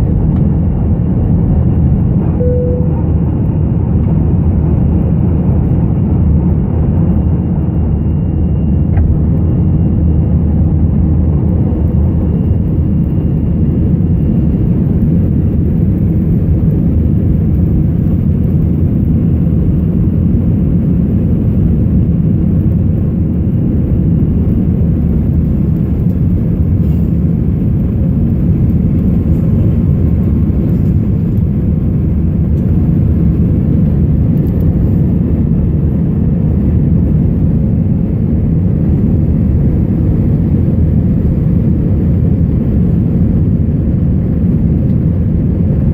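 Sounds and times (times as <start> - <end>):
jet engines droning in cabin: 0.0 - 45.9.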